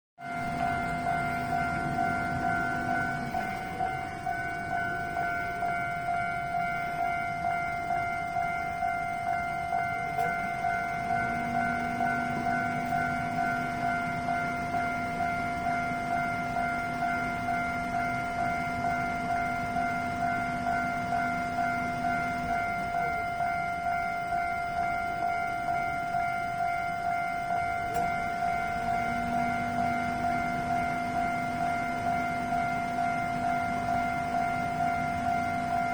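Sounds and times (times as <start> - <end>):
level-crossing electronic bell ringing: 0.2 - 35.9
low steady tone: 0.2 - 35.9.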